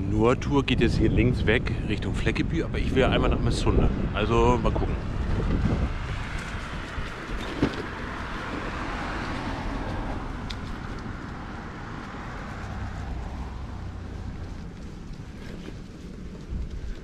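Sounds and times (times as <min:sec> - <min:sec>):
car passing: 0:00.0 - 0:17.0
wind rumble on microphone: 0:00.0 - 0:17.0.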